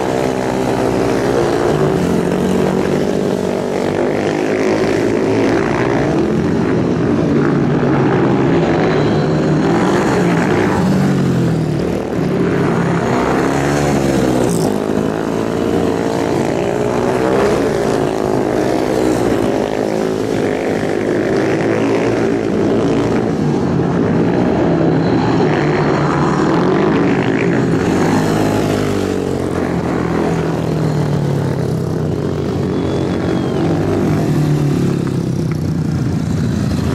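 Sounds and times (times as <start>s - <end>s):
racing motorcycle engines: 0.0s - 36.9s.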